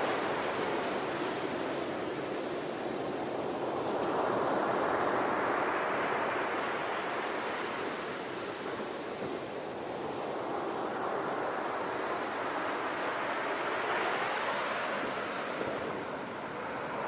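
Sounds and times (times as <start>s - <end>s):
waves washing onto shore: 0.0s - 17.0s.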